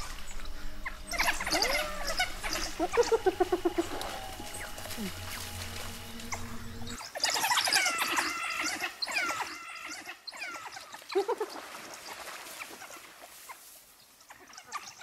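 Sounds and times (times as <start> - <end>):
wild dogs twittering: 0.0 - 13.6, 14.2 - 15.0.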